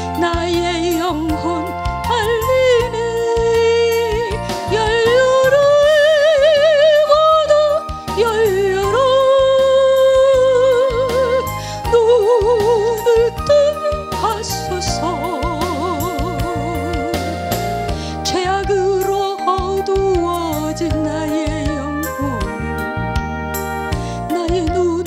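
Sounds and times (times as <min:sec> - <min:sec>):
instrumental accompaniment: 0:00.0 - 0:25.0
woman singing gospel: 0:00.2 - 0:17.7, 0:18.3 - 0:22.4, 0:24.3 - 0:25.0.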